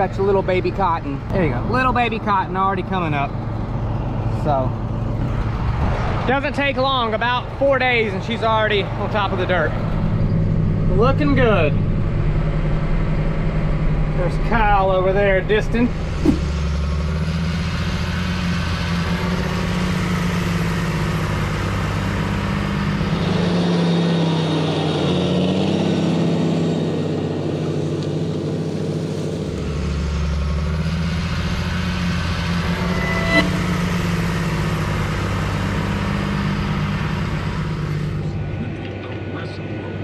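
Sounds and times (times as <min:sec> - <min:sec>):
tractor engine running under load: 0:00.0 - 0:32.6, 0:33.6 - 0:40.0.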